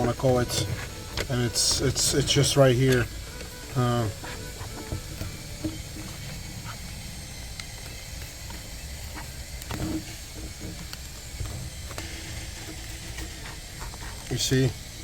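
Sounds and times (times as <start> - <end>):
screwdriver scraping: 0.0 - 6.9, 9.1 - 14.7
steady hiss: 0.0 - 15.0.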